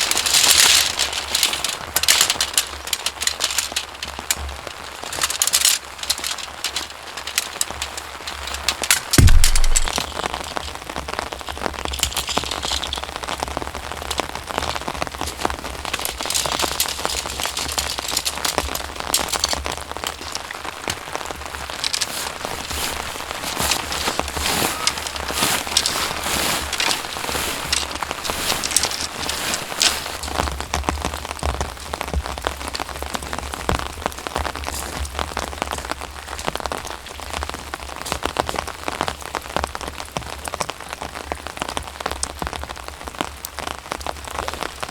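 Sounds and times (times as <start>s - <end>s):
raindrops striking close by: 0.0s - 44.9s
steady rain: 0.0s - 44.9s.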